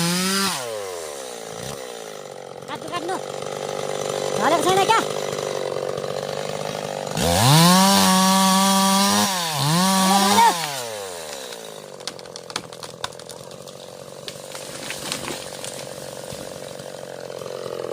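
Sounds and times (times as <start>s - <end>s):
chainsaw idling and revving: 0.0s - 17.9s.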